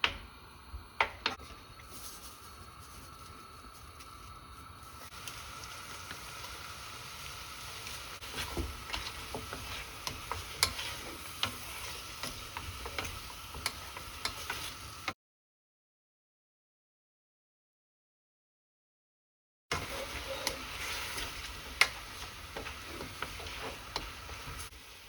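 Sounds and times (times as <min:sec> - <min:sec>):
food sizzling in a pan: 0:00.0 - 0:15.2, 0:19.7 - 0:25.0.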